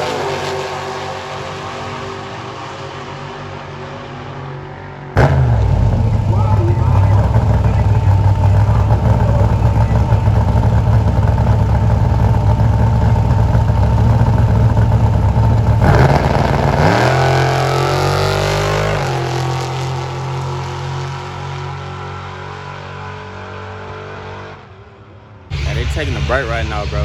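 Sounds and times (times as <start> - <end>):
race car engines rumbling: 0.0 - 27.0
race cars launching and accelerating: 0.0 - 27.0.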